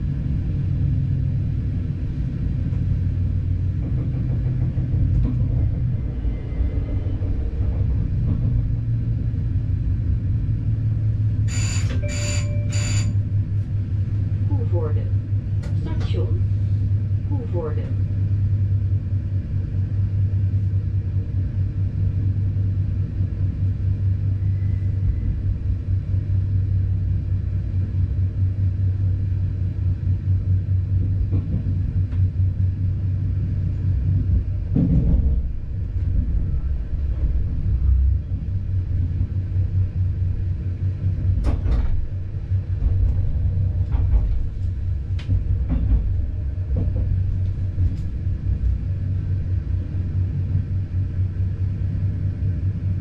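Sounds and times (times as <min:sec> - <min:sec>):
train running rumble and hum: 0:00.0 - 0:53.0.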